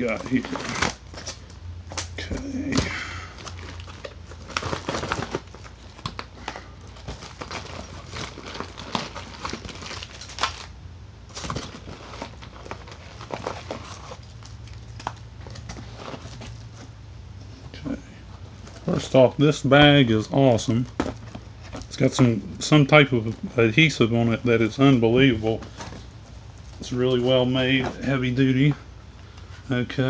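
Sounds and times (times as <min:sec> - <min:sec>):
plastic bag crinkling: 0:00.0 - 0:16.9, 0:18.4 - 0:28.8.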